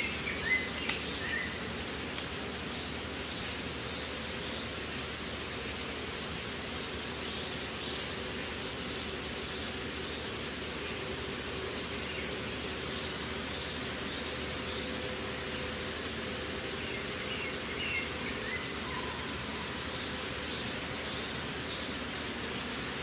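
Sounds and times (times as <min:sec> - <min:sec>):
outdoor hiss: 0:00.0 - 0:23.0.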